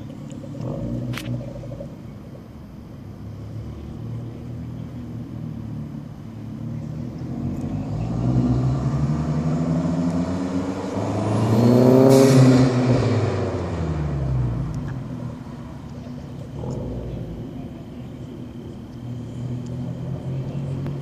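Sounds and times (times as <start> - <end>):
car driving past: 3.3 - 21.0.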